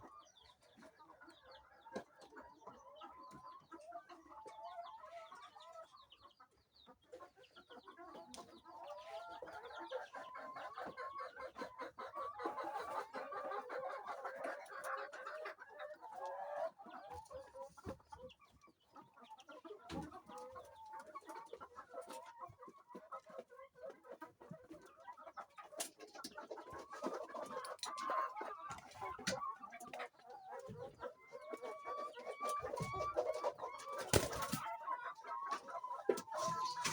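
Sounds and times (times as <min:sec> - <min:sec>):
hens clucking: 0:00.0 - 0:36.9.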